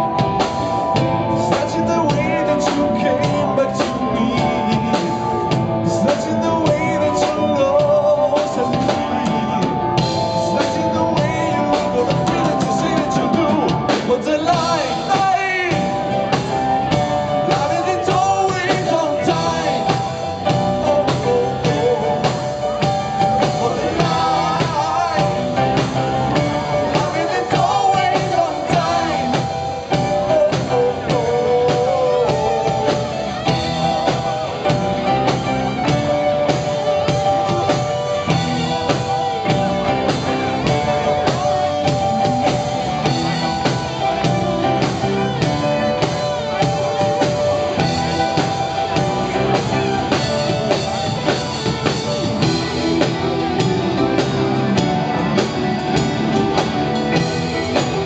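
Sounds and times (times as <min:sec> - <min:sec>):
drums: 0:00.0 - 0:58.0
electric guitar: 0:00.0 - 0:58.0
person singing: 0:00.0 - 0:58.0.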